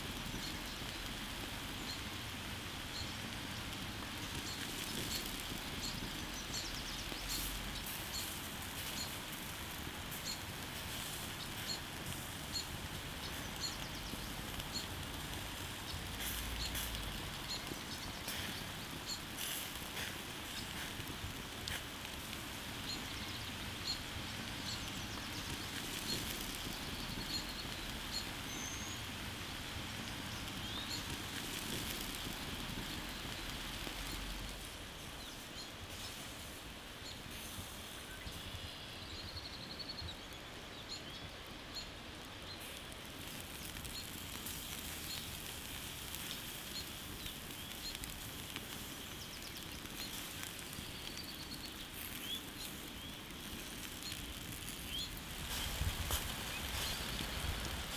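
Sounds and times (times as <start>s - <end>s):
birds chirping: 0.0s - 36.2s, 37.9s - 57.9s
embers crackling: 0.0s - 57.9s
steady hiss: 0.0s - 57.9s.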